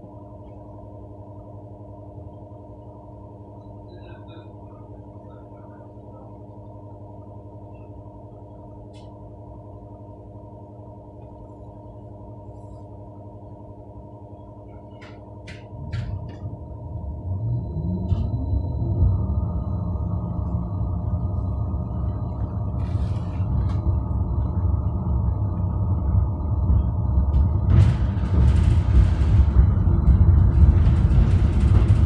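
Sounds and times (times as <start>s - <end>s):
tram electrical hum: 0.0s - 32.0s
tram whine and rumble moving off: 0.0s - 32.0s.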